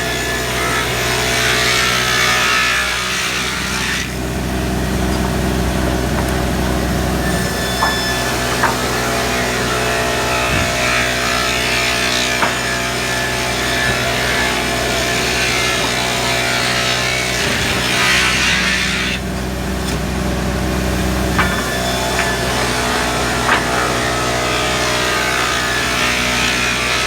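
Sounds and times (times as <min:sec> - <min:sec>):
saw cutting timber: 0:00.0 - 0:27.0
sawmill motor hum: 0:00.0 - 0:27.0.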